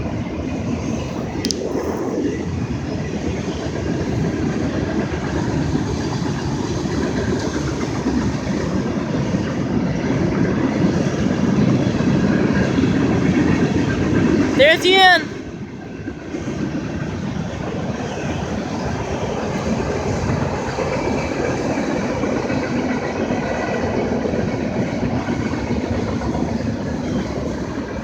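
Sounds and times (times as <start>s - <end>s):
train cars rolling on rails: 0.0s - 28.0s.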